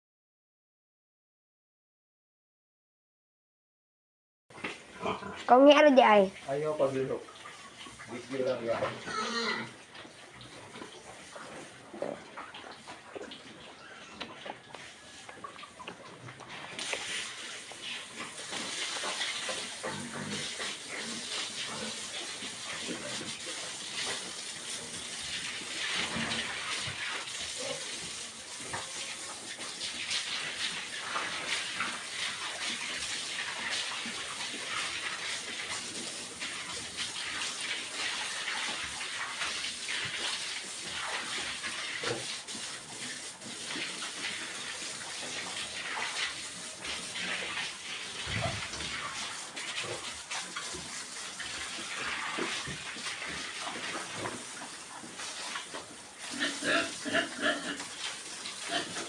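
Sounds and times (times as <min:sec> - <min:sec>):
hose spraying water on concrete: 0:04.7 - 0:13.8, 0:14.5 - 0:59.0.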